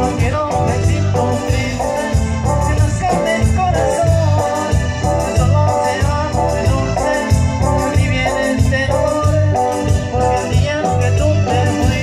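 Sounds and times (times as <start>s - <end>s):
latin dance music: 0.0s - 12.0s.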